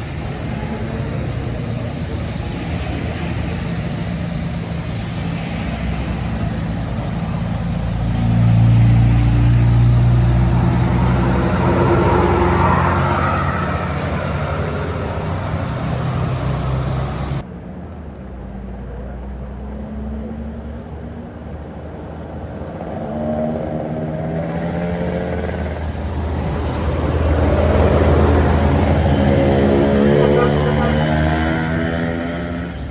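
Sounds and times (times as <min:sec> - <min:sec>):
diesel bus engines: 0:00.0 - 0:32.9
rain hiss and wet tyres: 0:00.0 - 0:32.9.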